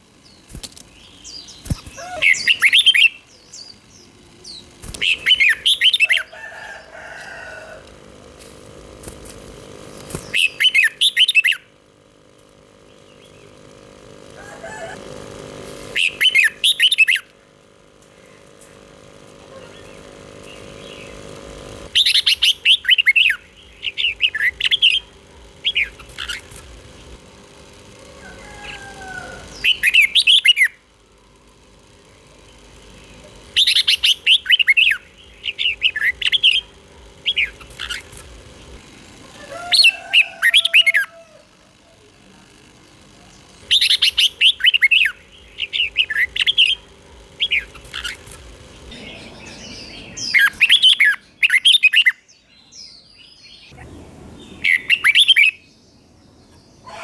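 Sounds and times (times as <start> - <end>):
bulbul singing chirping phrases: 0.0 - 8.3, 9.6 - 27.3, 28.0 - 31.1, 32.0 - 57.0
faint steady hum: 0.0 - 57.0.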